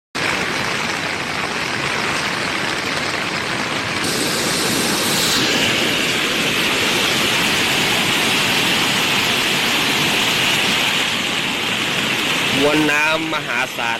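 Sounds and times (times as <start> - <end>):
floodwater rushing: 0.2 - 13.9.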